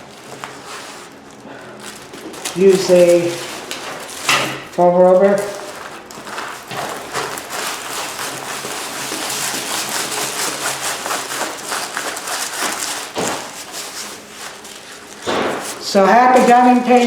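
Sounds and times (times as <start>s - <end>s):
plastic cover crinkling: 0.0s - 17.0s.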